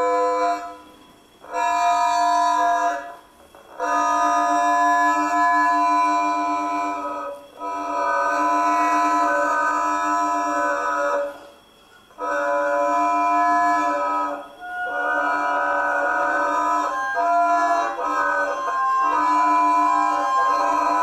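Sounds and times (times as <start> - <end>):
rubbed long strings droning: 0.0 - 11.5, 12.2 - 21.0.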